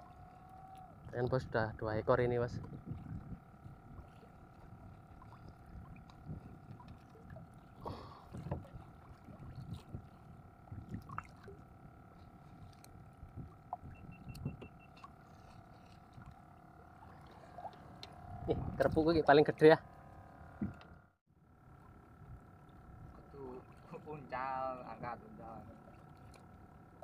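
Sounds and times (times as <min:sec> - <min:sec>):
faint steady hum: 0:00.0 - 0:27.0
water rumbling against hull: 0:00.0 - 0:27.0.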